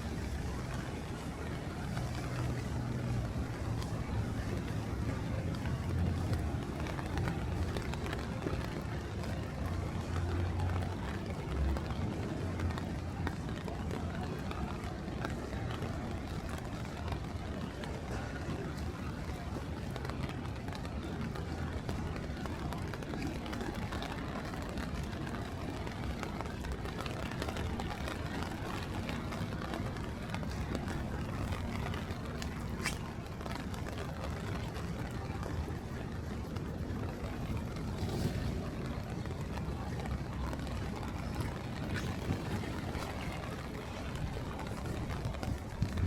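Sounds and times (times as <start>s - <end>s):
faint ticks and patters: 0.0s - 46.0s
traffic rumble: 0.0s - 46.0s.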